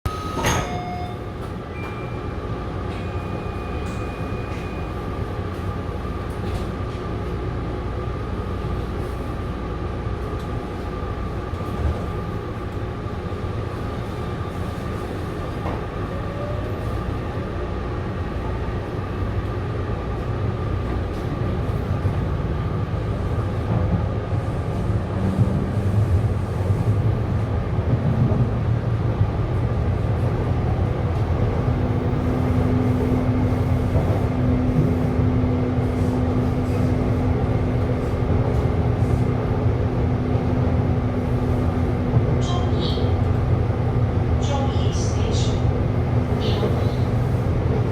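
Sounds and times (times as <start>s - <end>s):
train rumbling on track: 0.0s - 47.9s.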